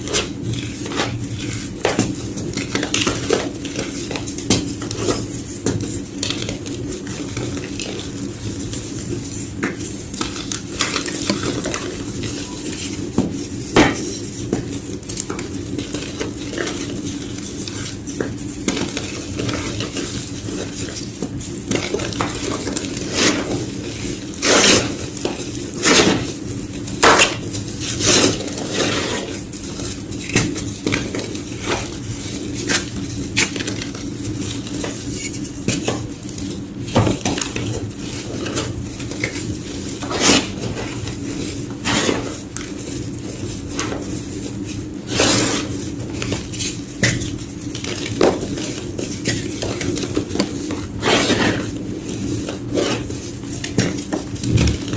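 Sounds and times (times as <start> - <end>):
chalk crushed and crunching: 0.0 - 54.9.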